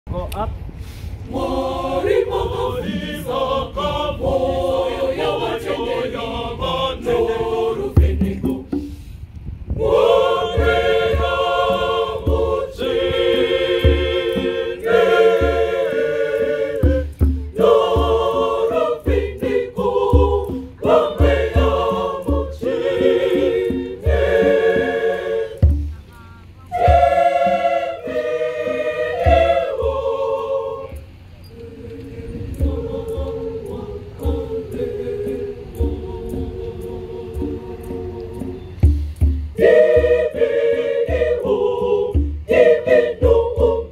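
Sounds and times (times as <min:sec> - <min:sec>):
choir singing a hymn: 0:01.2 - 0:09.1, 0:09.7 - 0:43.9
low thumps: 0:06.2 - 0:43.9.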